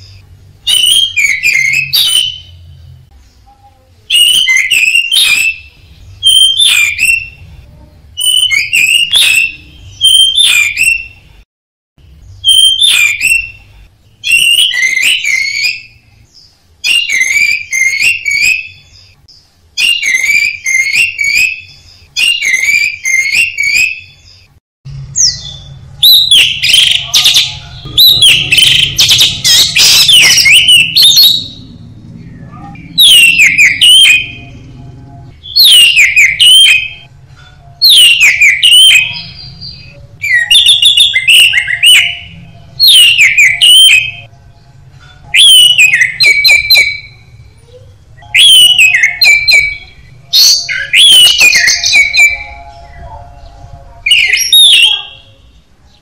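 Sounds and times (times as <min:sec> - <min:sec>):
thrush singing whistled phrases: 0:00.0 - 0:02.8, 0:04.1 - 0:07.5, 0:08.2 - 0:11.2, 0:12.4 - 0:16.2, 0:16.8 - 0:19.2, 0:19.8 - 0:24.5, 0:25.2 - 0:31.7, 0:32.7 - 0:34.7, 0:35.4 - 0:37.1, 0:37.8 - 0:44.3, 0:45.3 - 0:47.5, 0:48.1 - 0:53.1, 0:54.0 - 0:55.5.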